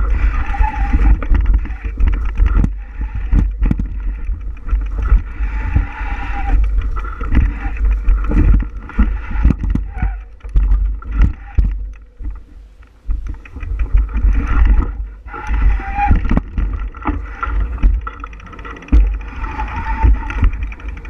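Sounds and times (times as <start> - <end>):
knocks and rattles from bumps: 0.0 - 21.0
wind buffeting microphone: 0.0 - 21.0.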